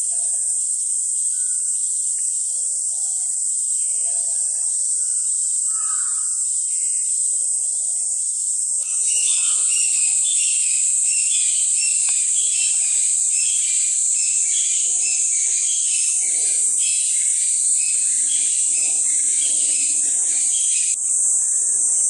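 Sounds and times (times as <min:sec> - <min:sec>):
cicadas buzzing: 0:00.0 - 0:22.0
pulsing cicada song: 0:00.0 - 0:22.0.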